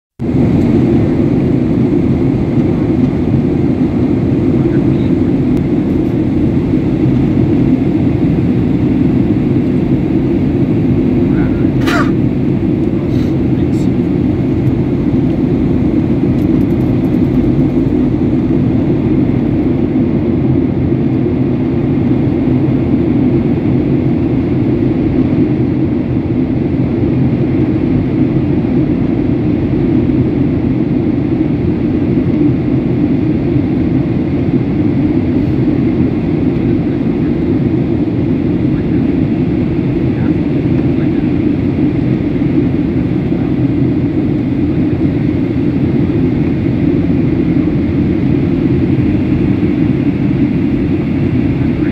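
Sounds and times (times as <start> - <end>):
jet cabin engine drone: 0.2 - 51.9.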